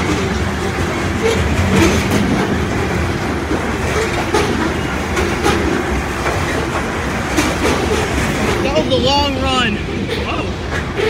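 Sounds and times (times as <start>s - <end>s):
train wheels rumbling on rails: 0.0s - 11.0s
wheels clicking over rail joints: 0.0s - 11.0s.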